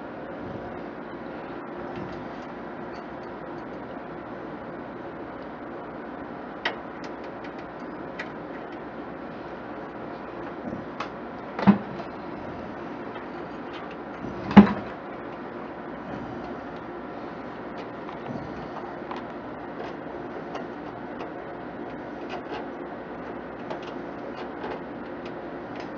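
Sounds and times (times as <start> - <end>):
steady background hum: 0.0 - 25.9.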